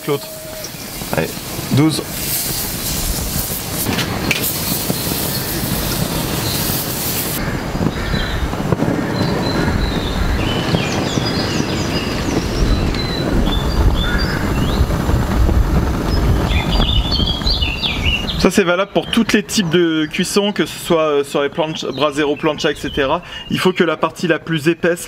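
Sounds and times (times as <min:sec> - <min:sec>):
birds chirping: 0:00.0 - 0:15.1, 0:16.0 - 0:24.3
hissing noise: 0:00.0 - 0:22.3
steady rumbling noise: 0:00.0 - 0:23.4.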